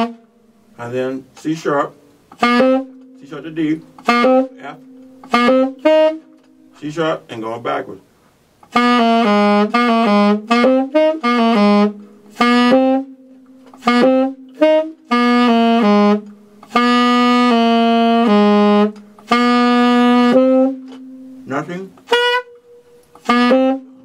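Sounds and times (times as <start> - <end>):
tenor saxophone playing: 0.0 - 7.2, 8.7 - 24.0.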